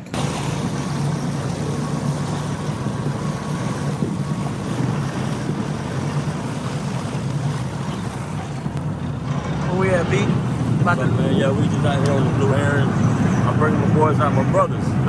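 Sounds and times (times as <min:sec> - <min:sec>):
boat engine drone: 0:00.0 - 0:15.0
wind buffeting microphone: 0:00.0 - 0:15.0.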